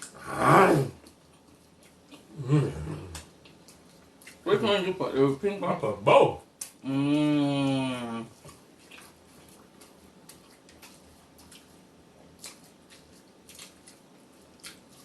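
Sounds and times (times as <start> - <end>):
people chewing: 0.0 - 4.9, 6.6 - 15.0.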